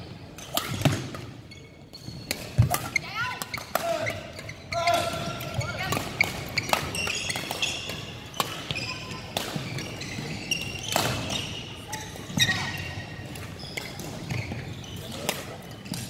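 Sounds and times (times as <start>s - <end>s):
shoes squeaking on court: 0.0s - 16.0s.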